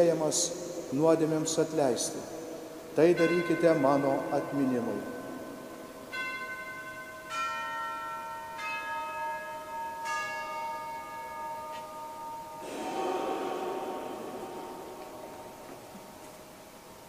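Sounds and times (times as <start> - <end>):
bells ringing: 2.9 - 16.6.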